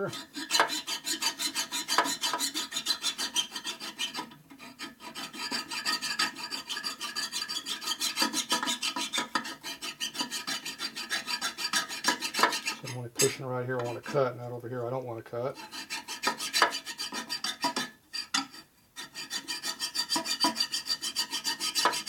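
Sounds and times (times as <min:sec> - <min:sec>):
hand file rasping on metal: 0:00.0 - 0:14.4, 0:15.4 - 0:22.0.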